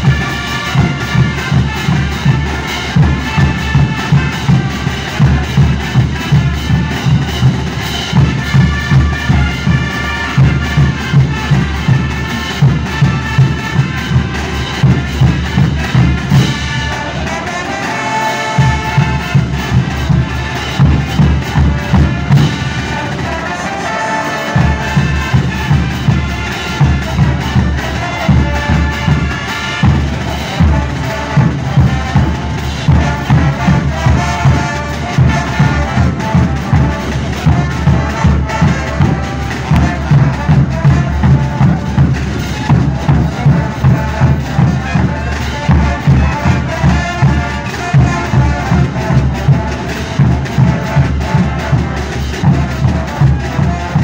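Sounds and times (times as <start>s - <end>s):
marching brass band playing: 0.0s - 54.0s.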